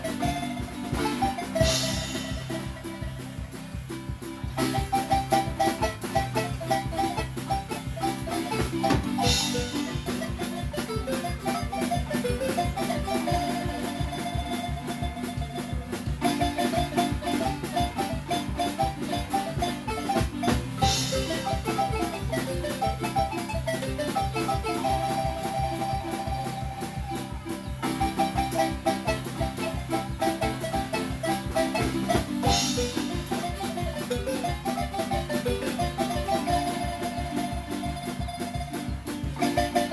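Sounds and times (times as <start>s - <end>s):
marimba music: 0.0s - 39.9s.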